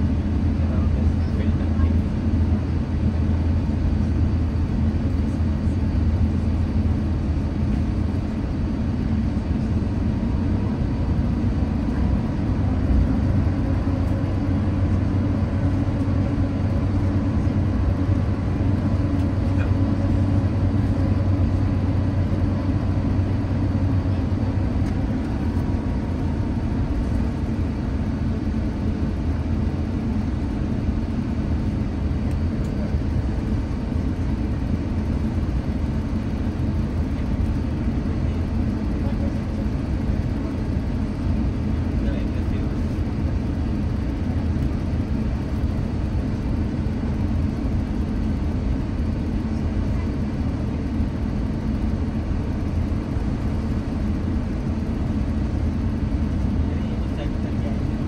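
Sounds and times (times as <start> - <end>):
faint engine whine: 0.0 - 58.0
jet engines droning in cabin: 0.0 - 58.0.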